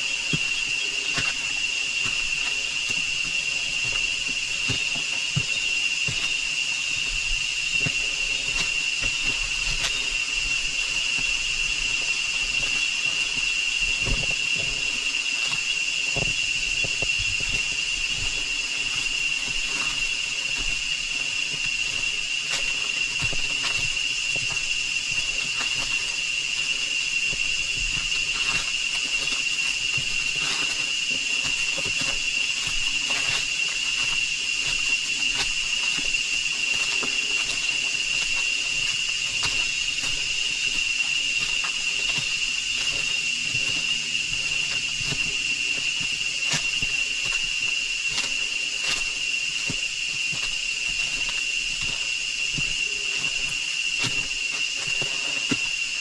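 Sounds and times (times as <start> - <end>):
insects droning whine: 0.0 - 56.0.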